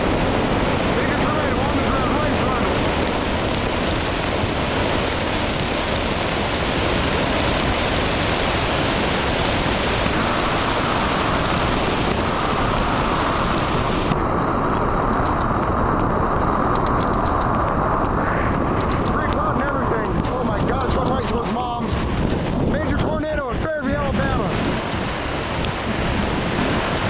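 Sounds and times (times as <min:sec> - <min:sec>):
heavy rain: 0:00.0 - 0:27.0
storm wind rushing: 0:00.0 - 0:27.0.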